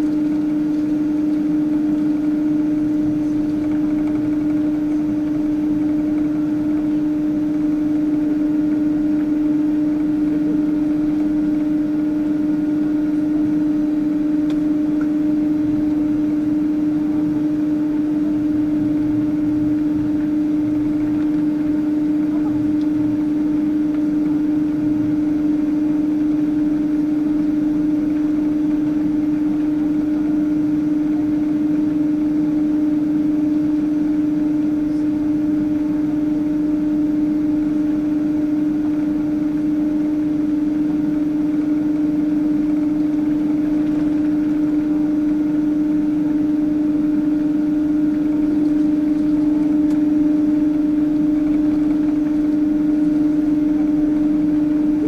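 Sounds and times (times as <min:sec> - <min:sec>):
constant low hum: 0:00.0 - 0:55.0.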